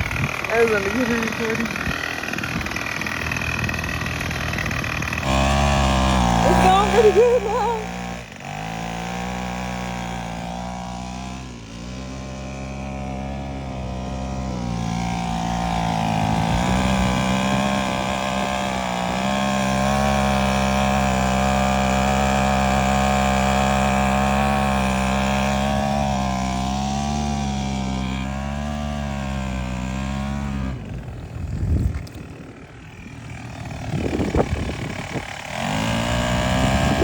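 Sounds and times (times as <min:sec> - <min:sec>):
small outboard motor running: 0:00.0 - 0:37.0.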